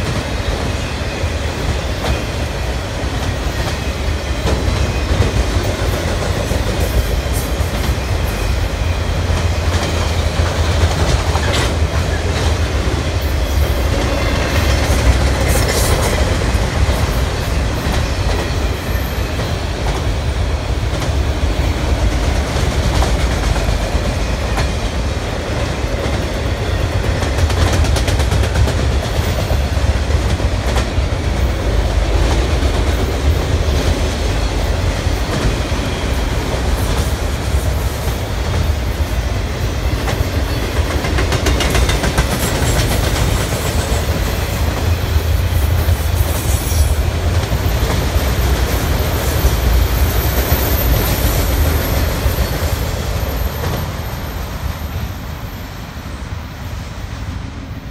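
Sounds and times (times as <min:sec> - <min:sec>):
wheels clacking over rail joints: 0:00.0 - 0:54.1
freight train rumbling past: 0:00.0 - 0:57.9.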